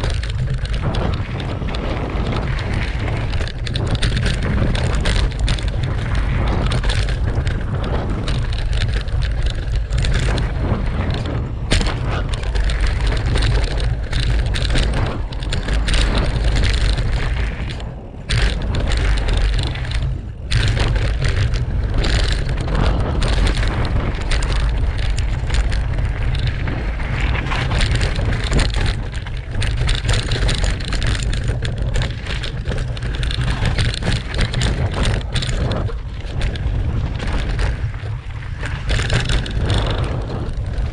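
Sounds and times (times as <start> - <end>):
bike knocks and rattles: 0.0 - 40.9
bike tyres rumbling over dirt and stones: 0.0 - 40.9
wind on microphone: 0.0 - 40.9.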